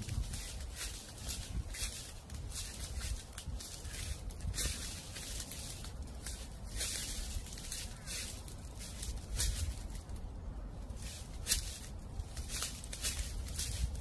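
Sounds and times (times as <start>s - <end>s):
footsteps crunching dry leaves: 0.0s - 14.0s
low rumble of wind: 0.0s - 14.0s.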